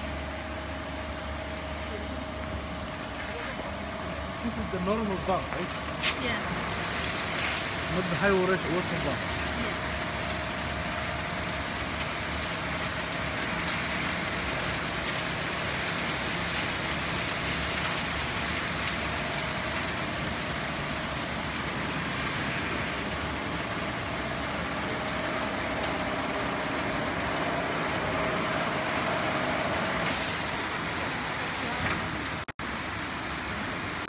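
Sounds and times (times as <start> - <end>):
car wash brushes and water spray: 2.8 - 32.5.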